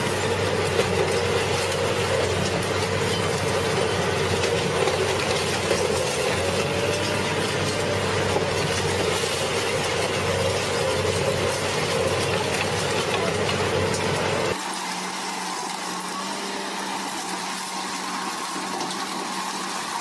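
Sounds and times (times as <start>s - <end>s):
shredder machine drone: 0.0s - 20.0s.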